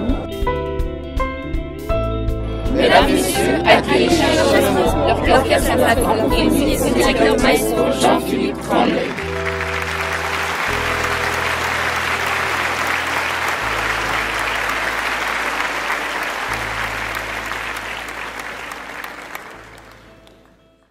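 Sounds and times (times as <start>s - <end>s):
music of low held notes: 2.4s - 20.8s
audience applauding: 2.7s - 20.8s.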